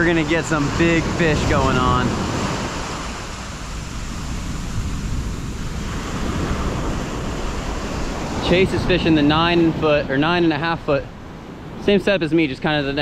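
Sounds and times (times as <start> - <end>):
ocean surf breaking: 0.0 - 13.0
wind rumble on microphone: 0.0 - 13.0.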